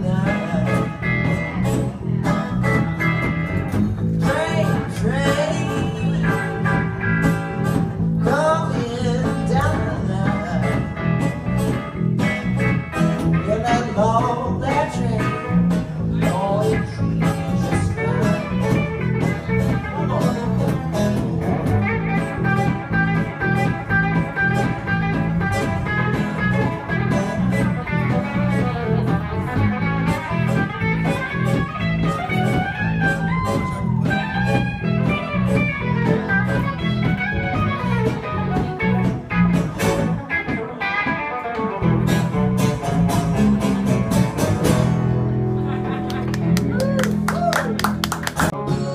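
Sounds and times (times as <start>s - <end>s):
lead guitar solo: 0.0s - 14.2s, 14.9s - 48.9s
bass guitar: 0.0s - 48.9s
drums: 0.0s - 48.9s.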